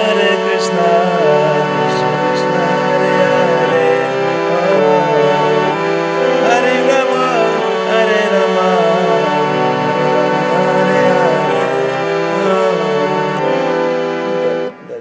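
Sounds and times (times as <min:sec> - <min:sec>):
harmonium playing: 0:00.0 - 0:15.0.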